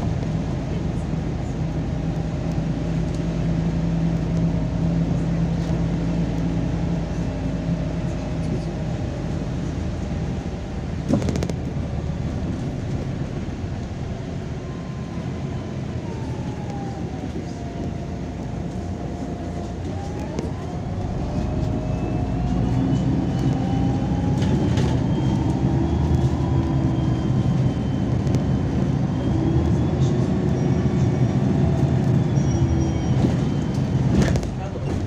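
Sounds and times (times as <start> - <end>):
bus engine running: 0.0 - 35.0
road noise: 0.0 - 35.0
whine: 0.0 - 35.0.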